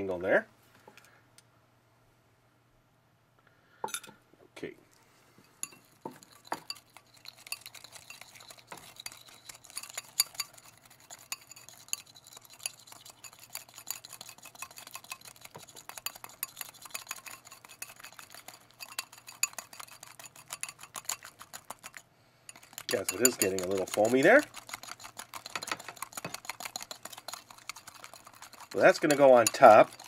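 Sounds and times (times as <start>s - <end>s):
whisk clicking against glass bowl: 5.6s - 30.0s.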